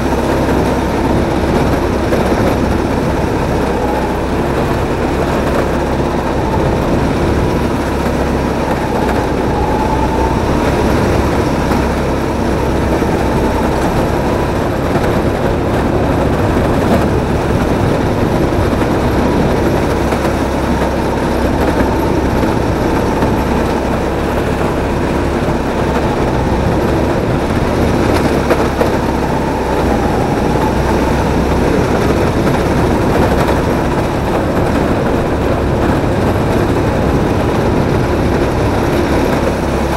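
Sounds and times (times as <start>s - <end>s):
kart engine rumbling: 0.0s - 39.9s.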